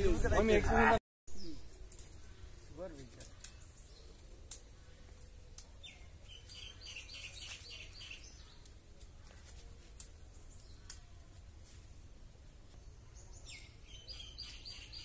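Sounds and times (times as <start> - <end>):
bird chirping: 1.3 - 11.3, 12.7 - 15.0.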